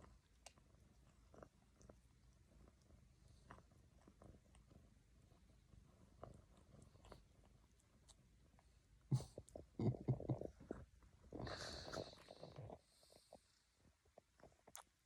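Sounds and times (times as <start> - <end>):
cat licking: 0.0 - 9.8, 10.4 - 13.6.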